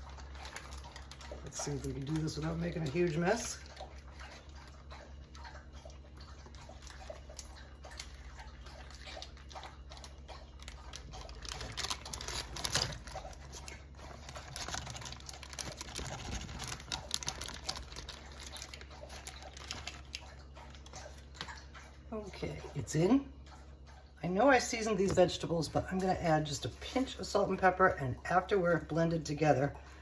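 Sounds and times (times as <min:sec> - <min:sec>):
soft wet patter: 0:00.0 - 0:30.0.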